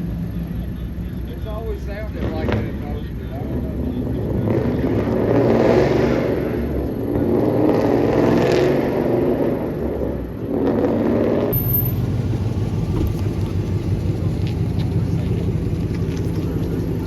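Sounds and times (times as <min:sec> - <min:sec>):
car engine revving: 0:00.7 - 0:17.0.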